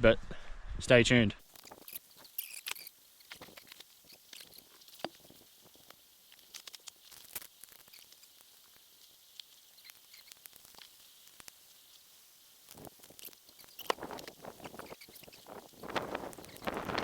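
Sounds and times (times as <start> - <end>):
light ticks and patters: 1.4 - 17.0
steady high hiss: 1.4 - 17.0.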